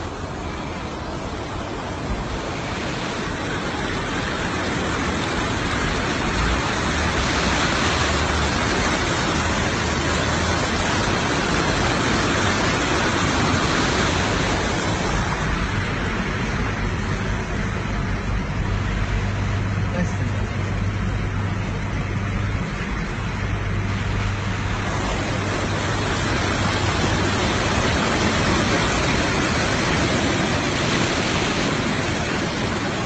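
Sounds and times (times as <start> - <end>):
rushing river water: 0.0 - 33.0
vehicle engine running low: 0.0 - 33.0.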